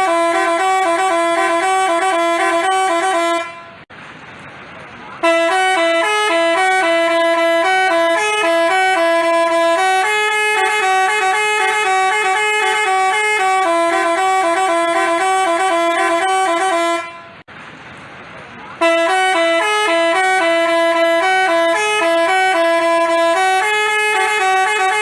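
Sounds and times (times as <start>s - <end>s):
multi-tone bus horn melody: 0.0s - 3.9s, 5.2s - 17.5s, 18.8s - 25.0s.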